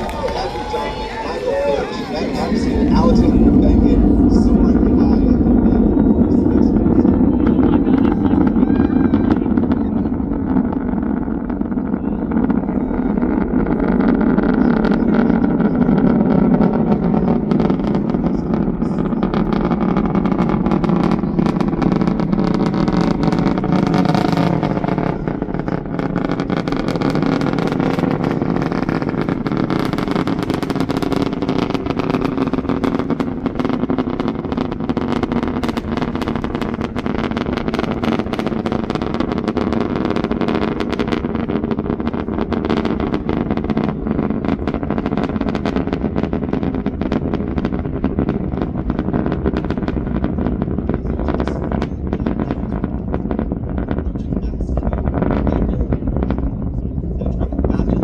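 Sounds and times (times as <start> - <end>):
distant rocket engine rumble: 0.0 - 58.0.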